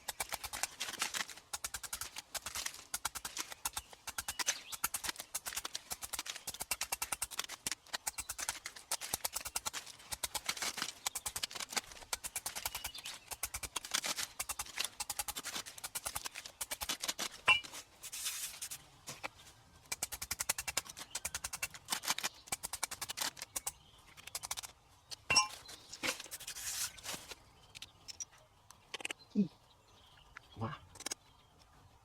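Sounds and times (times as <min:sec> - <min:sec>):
hand tool digging rocky ground: 0:00.0 - 0:27.4.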